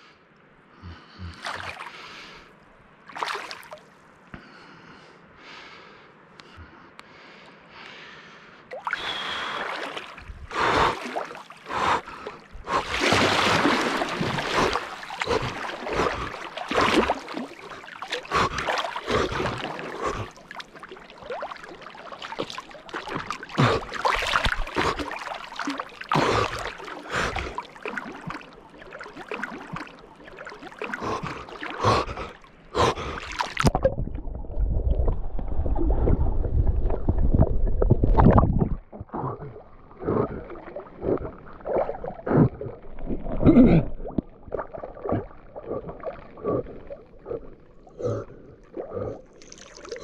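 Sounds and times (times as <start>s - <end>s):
water splashing from swimming: 1.3s - 2.4s, 3.1s - 3.9s, 8.7s - 50.0s.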